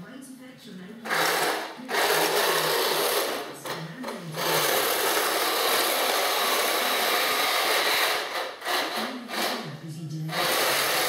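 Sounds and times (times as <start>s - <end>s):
toy tank mechanical whir: 1.0s - 9.6s, 10.3s - 11.0s.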